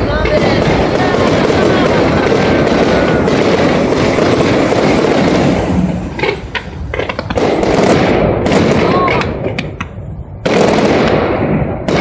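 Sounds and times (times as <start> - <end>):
firework sharp cracks: 0.0 - 12.0
fireworks crackling: 0.0 - 12.0.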